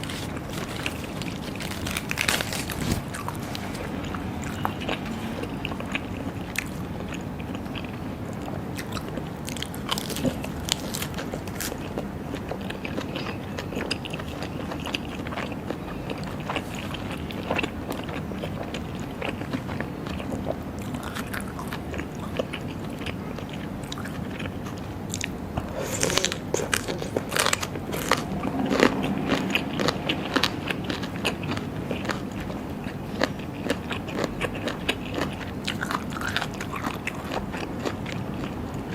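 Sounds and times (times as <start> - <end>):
chewing raw seafood: 0.0 - 38.9.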